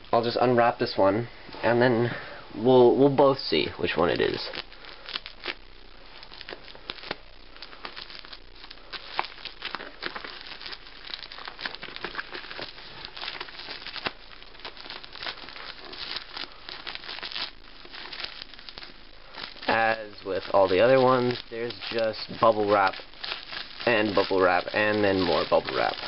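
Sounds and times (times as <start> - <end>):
plastic packaging crinkling: 3.6 - 26.0.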